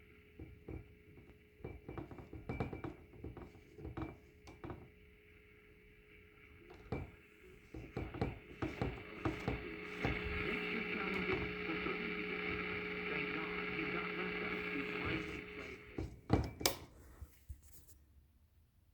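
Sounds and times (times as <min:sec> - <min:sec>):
radio static crackling and hiss: 0:00.0 - 0:16.4
faint steady whine: 0:00.0 - 0:17.4.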